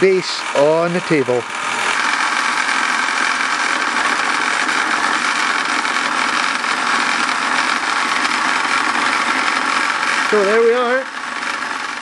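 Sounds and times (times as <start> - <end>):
toy steam engine running: 0.0 - 12.0.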